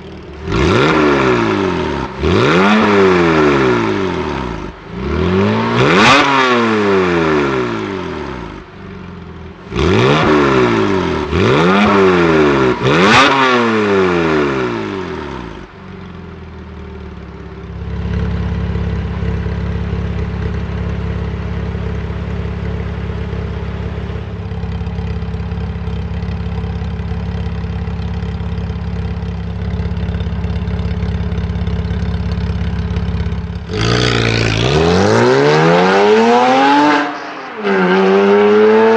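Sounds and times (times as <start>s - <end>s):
sports car engine revving and idling: 0.0s - 38.9s.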